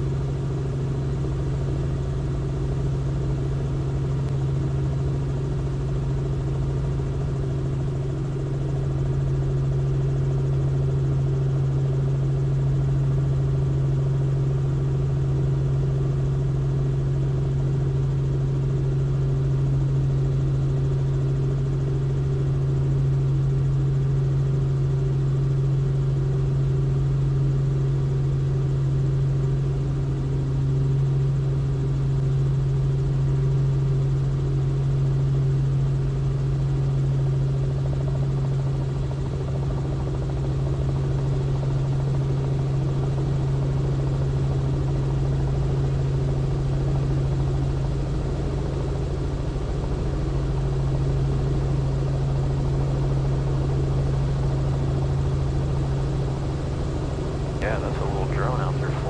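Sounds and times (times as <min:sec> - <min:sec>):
helicopter engine and rotors drone: 0:00.0 - 0:59.0.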